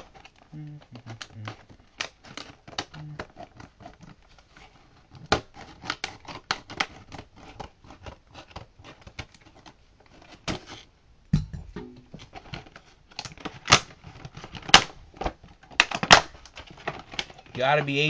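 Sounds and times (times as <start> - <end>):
cardboard snipping and scraping: 0.0 - 10.9, 11.9 - 18.0
packaging rustling: 0.0 - 10.9, 11.7 - 18.0.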